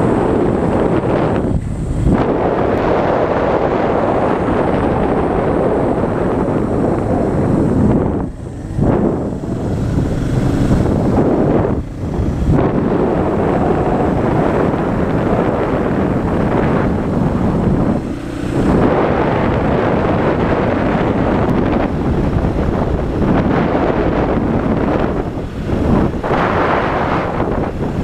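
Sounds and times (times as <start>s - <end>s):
dirt bike engine running: 0.0s - 28.0s
wind buffeting microphone: 0.0s - 28.0s.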